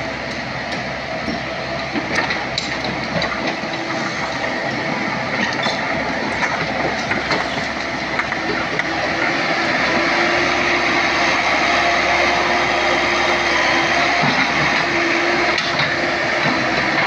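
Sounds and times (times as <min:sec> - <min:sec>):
excavator engine and hydraulics: 0:00.0 - 0:17.0
steady whine: 0:00.0 - 0:17.0.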